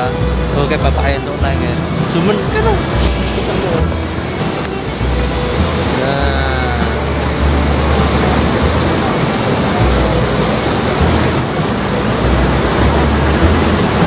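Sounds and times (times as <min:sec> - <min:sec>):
water rushing: 0:00.0 - 0:14.0
wind rumbling on microphone: 0:00.0 - 0:14.0.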